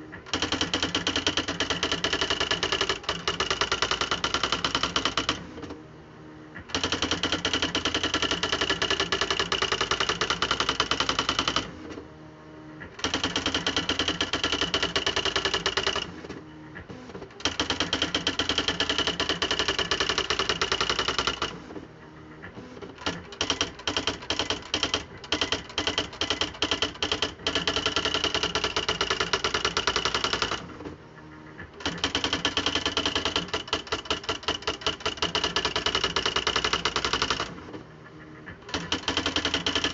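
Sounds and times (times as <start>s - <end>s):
electric typewriter key strikes: 0.1s - 5.5s, 6.6s - 11.7s, 12.8s - 16.1s, 17.4s - 21.6s, 22.4s - 30.8s, 31.7s - 37.6s, 38.4s - 39.9s.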